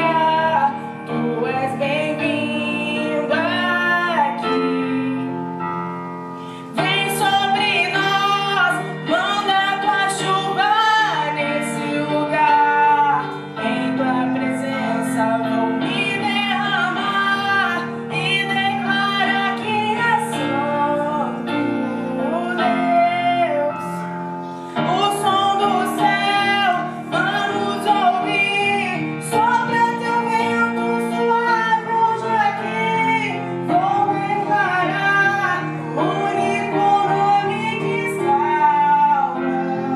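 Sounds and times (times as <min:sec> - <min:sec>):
woman singing gospel song: 0:00.0 - 0:05.2, 0:06.6 - 0:24.1, 0:24.7 - 0:39.9.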